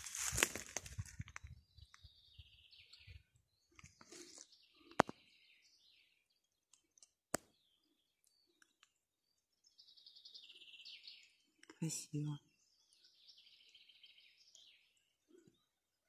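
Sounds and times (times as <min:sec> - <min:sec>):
songbird singing: 0:00.8 - 0:16.0.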